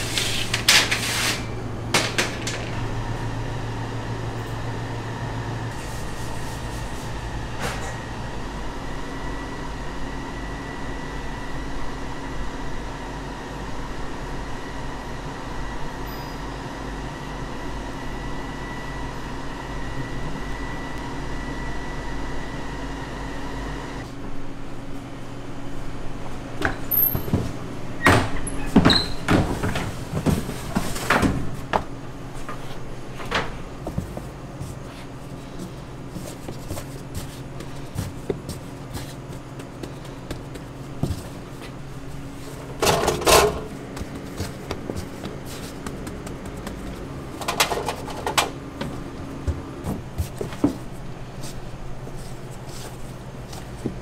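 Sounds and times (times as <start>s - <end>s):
kitchen machinery humming: 0.0s - 54.0s.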